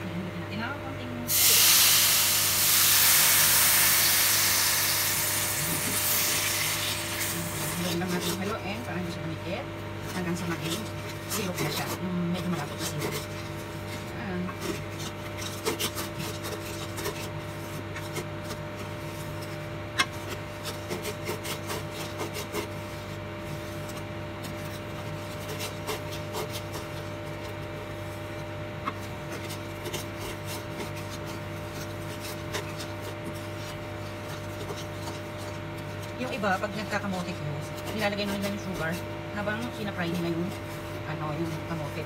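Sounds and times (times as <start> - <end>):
wooden spoon scraping pot: 2.5 - 42.0.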